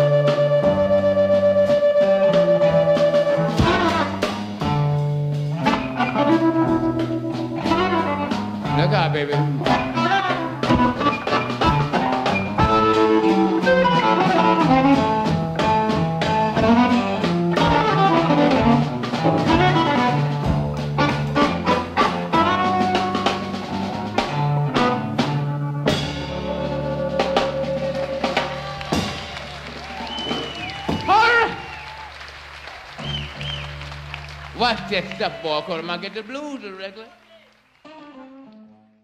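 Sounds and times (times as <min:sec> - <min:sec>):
electric guitars: 0:00.0 - 0:31.7
drum kit steady beat: 0:00.0 - 0:32.0.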